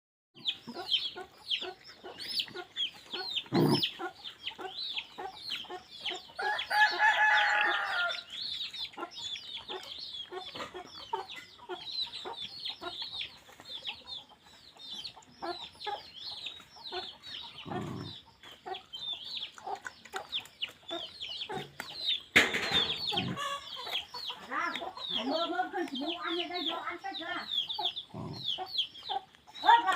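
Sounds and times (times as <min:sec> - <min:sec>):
chickens peeping and clucking: 0:00.4 - 0:29.9.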